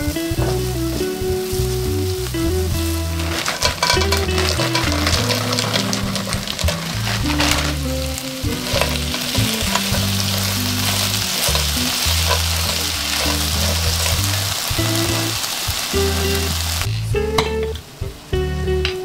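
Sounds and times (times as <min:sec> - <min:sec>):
shrimp and onion sizzling: 0:00.0 - 0:19.0.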